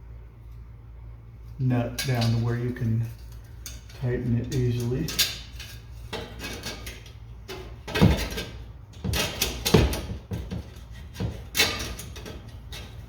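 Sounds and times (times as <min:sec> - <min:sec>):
metal clanks and knocks: 0:01.9 - 0:13.0.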